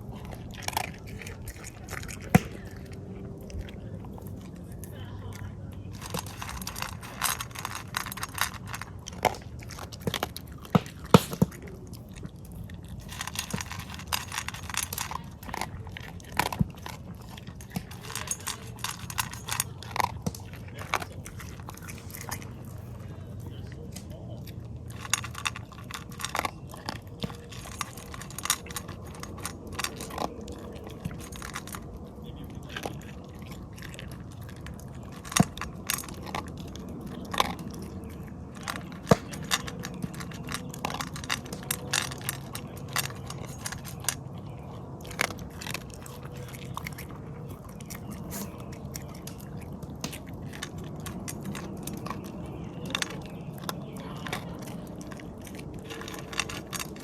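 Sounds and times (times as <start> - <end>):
low background noise: 0.0 - 57.0
sharp clicks and crackles: 0.0 - 57.0.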